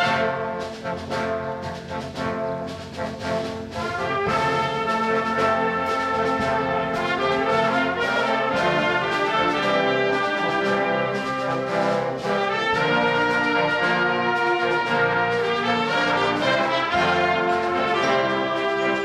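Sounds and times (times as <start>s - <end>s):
brass chords and lines: 0.0s - 19.0s
concert band playing: 0.0s - 19.0s.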